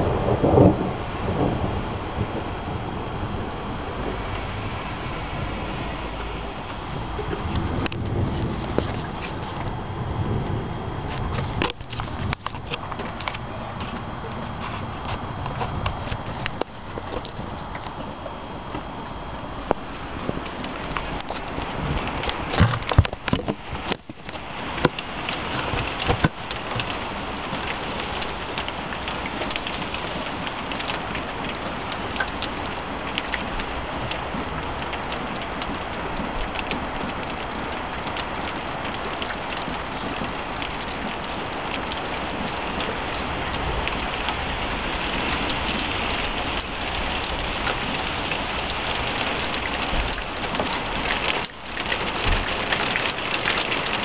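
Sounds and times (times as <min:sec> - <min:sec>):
heavy rain: 0:00.0 - 0:54.0
raindrops striking close by: 0:00.0 - 0:54.0.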